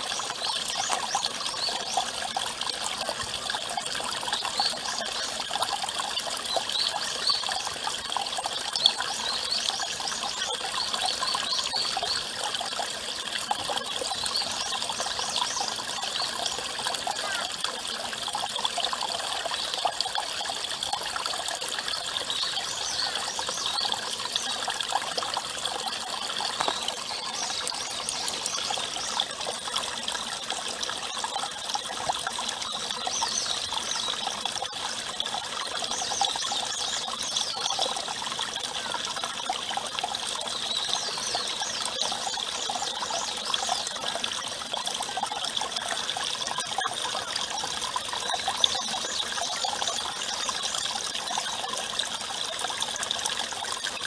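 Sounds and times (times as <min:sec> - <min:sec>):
water pouring from spout: 0:00.0 - 0:54.0
water trickling into basin: 0:00.0 - 0:54.0.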